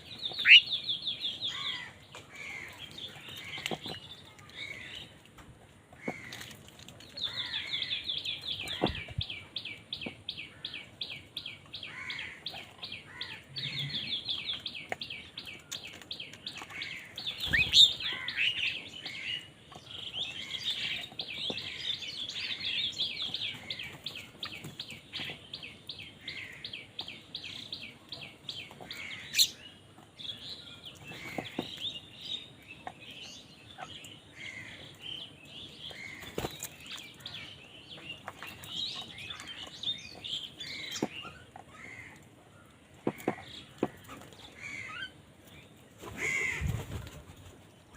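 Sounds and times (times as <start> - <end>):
bird chirping: 0.0 - 5.2, 6.3 - 47.9.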